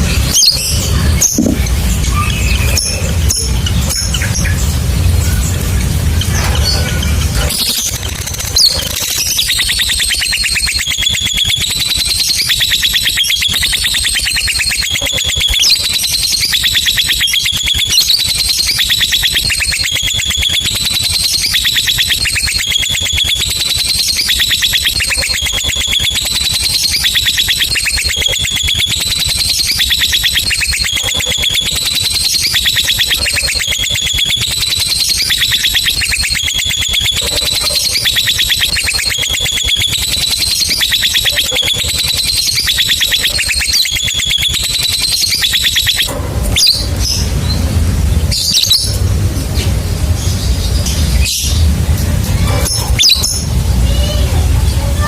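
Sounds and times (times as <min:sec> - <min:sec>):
bird high chattering trill: 0:00.0 - 0:49.0, 0:50.9 - 0:55.0.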